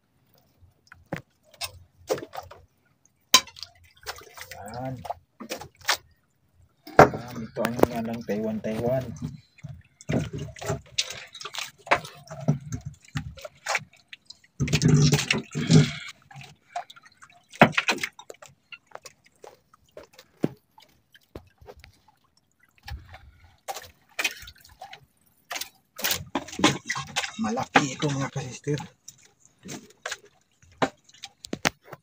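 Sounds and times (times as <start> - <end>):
water dripping and splashing: 0.2 - 32.0.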